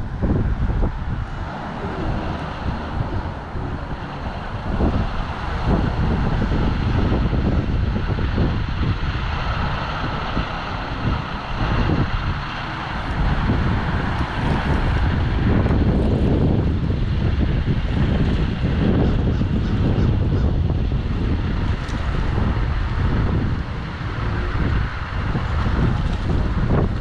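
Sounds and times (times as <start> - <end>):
steady outdoor hiss: 0.0 - 27.0
wind buffeting microphone: 0.0 - 27.0.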